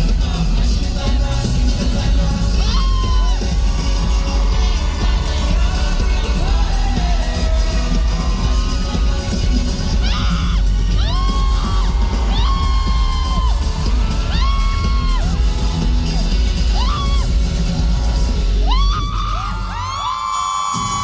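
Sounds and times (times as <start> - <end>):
person singing: 0.0 - 18.8
crowd yelling and whooping: 0.0 - 21.0
heavy bass beat: 0.0 - 21.0.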